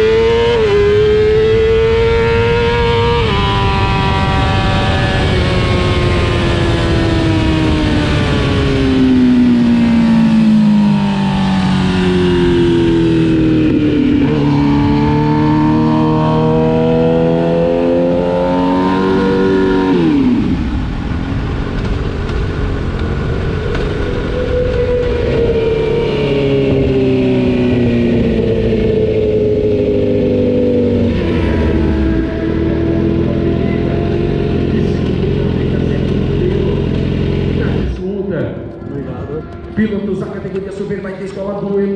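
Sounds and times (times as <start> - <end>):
wind noise: 0.0 - 35.5
racing motorcycle engine: 0.0 - 41.9.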